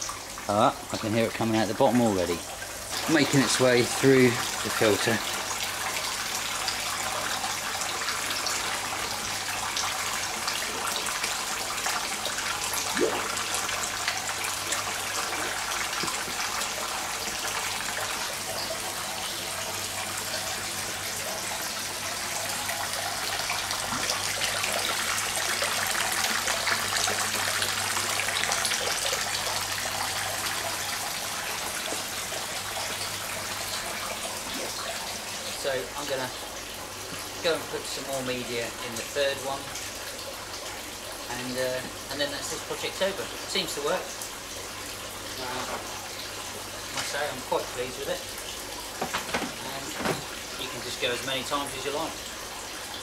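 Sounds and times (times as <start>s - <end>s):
water splashing and trickling: 0.0s - 53.0s.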